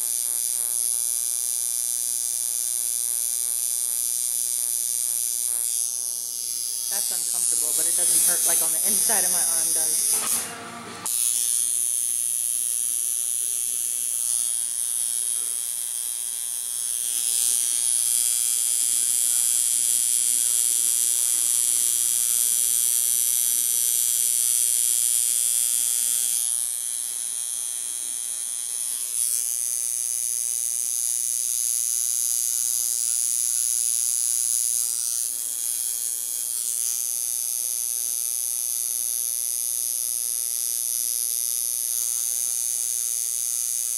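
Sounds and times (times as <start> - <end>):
tattoo machine buzzing: 0.0 - 43.9.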